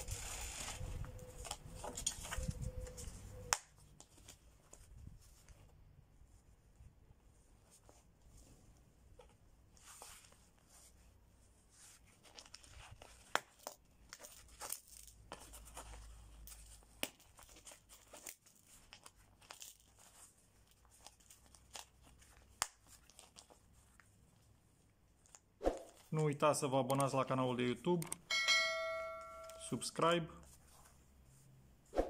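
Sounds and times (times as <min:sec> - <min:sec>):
fabric and straps rustling: 0:00.0 - 0:26.2, 0:30.4 - 0:32.0.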